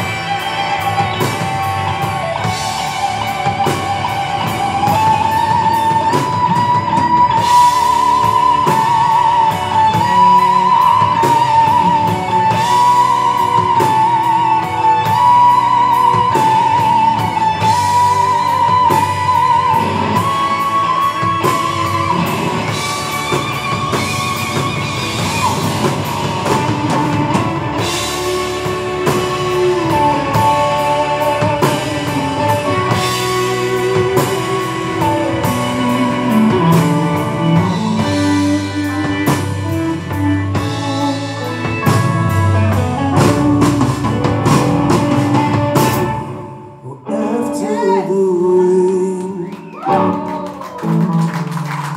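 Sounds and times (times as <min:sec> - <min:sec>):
drums: 0:00.0 - 0:51.9
electric guitar solo: 0:00.0 - 0:51.9
rhythm guitar: 0:00.0 - 0:51.9.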